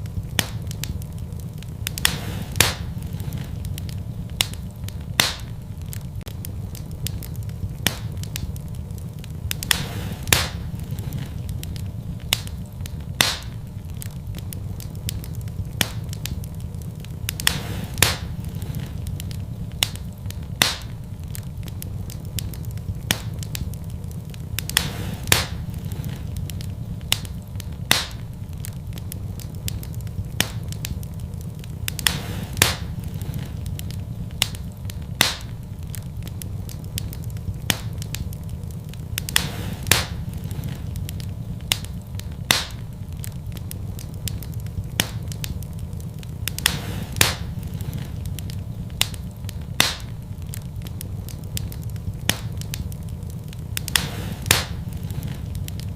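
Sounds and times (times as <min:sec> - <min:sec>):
fire crackling and popping: 0:00.0 - 0:55.9
low fire rumble: 0:00.0 - 0:55.9.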